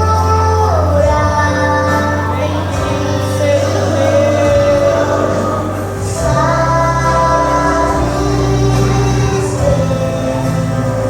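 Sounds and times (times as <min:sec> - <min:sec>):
choir singing gospel song: 0:00.0 - 0:11.0
steady bass: 0:00.0 - 0:11.0.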